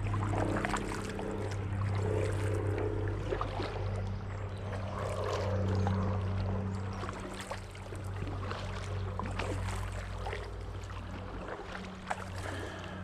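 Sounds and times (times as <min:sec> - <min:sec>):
paddles splashing in water: 0:00.0 - 0:13.0
steady low hum: 0:00.0 - 0:13.0.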